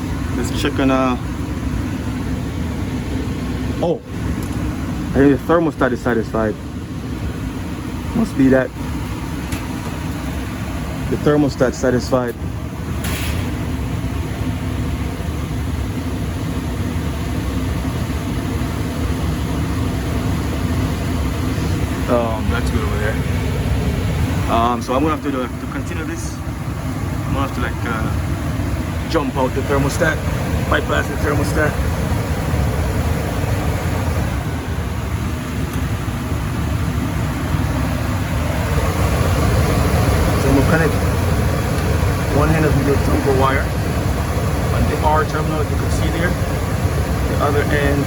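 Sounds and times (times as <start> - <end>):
furnace humming with air noise: 0.0 - 48.0.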